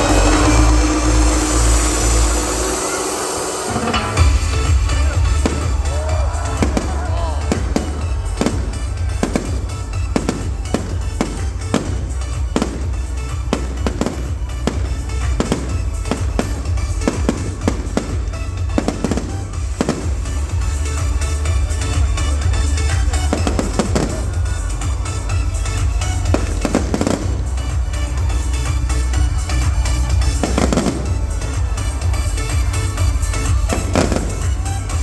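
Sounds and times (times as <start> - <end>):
fireworks bangs: 0.0 - 35.0
music: 0.0 - 35.0.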